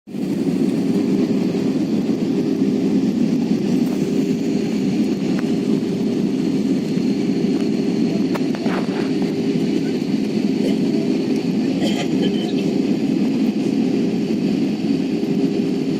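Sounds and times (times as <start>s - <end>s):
jet cabin engine and airflow drone: 0.1s - 15.9s.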